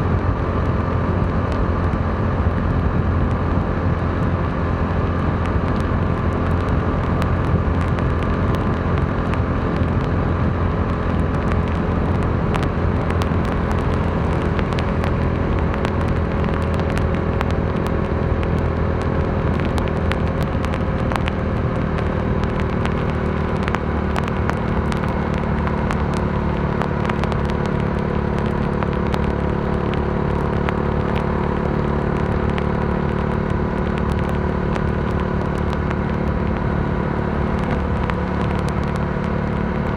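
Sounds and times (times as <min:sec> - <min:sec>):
motorcycle engine cruising: 0:00.0 - 0:39.9
raindrops ticking on microphone: 0:00.0 - 0:39.9
wind and road noise: 0:00.0 - 0:39.9.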